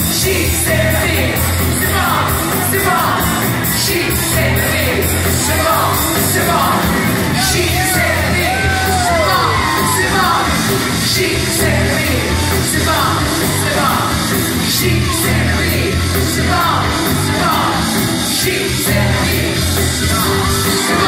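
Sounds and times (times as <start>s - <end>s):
dance backing track with beat: 0.0s - 21.0s.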